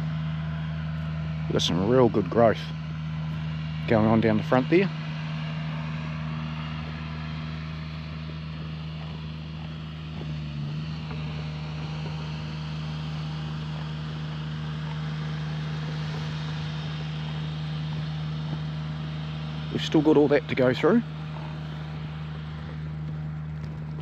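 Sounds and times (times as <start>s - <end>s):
tractor engine humming steadily: 0.0s - 24.0s.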